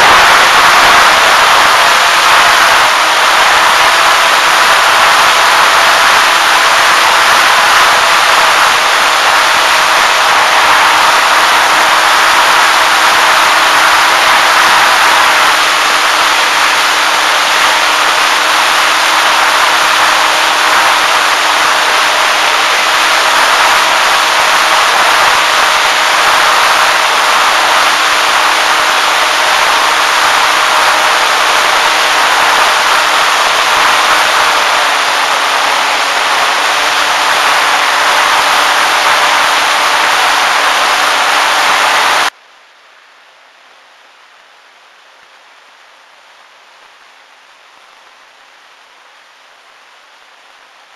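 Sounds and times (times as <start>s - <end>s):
electric motor and propeller humming: 0.0s - 42.4s
rush of air noise: 0.0s - 42.4s.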